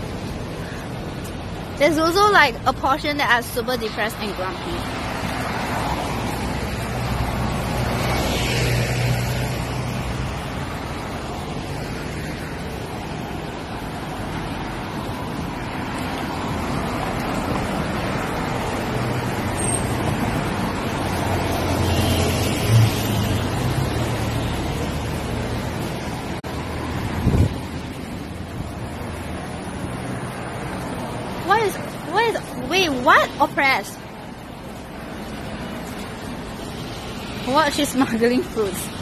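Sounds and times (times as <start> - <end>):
road traffic passing: 0.0 - 39.0.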